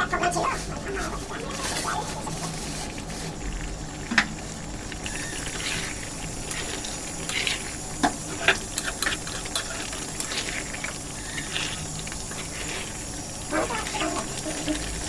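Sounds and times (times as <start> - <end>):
curry bubbling and sizzling: 0.0 - 15.0.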